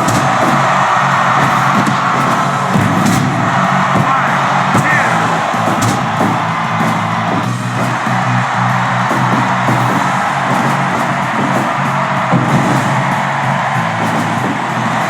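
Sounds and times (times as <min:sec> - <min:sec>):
music playing: 0:00.0 - 0:15.0
sharp hits: 0:00.0 - 0:15.0.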